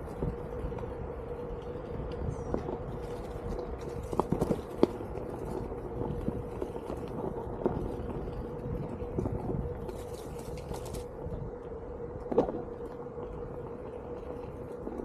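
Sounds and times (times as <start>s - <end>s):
hub motor whine: 0.0s - 15.0s
wind noise: 0.0s - 15.0s.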